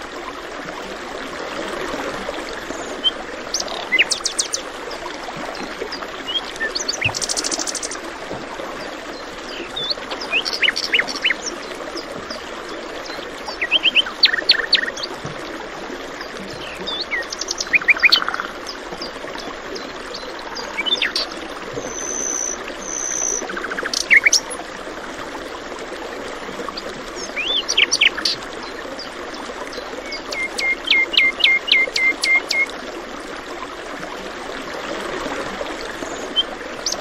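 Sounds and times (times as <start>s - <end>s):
flowing stream rushing: 0.0s - 37.0s.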